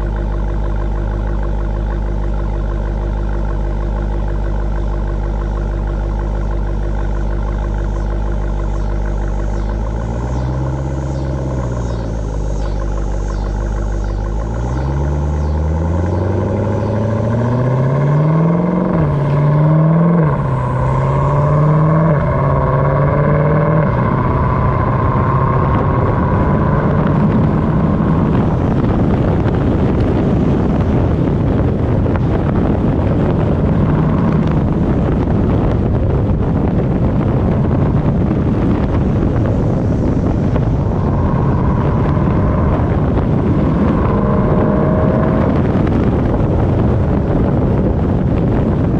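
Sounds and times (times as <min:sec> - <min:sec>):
car engine accelerating hard: 0:00.0 - 0:48.9
wind and road noise: 0:00.0 - 0:48.9.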